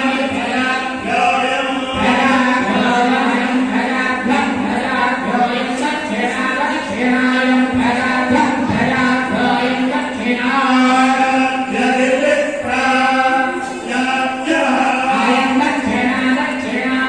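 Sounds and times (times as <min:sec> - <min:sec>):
women chanting a hymn: 0:00.0 - 0:17.0.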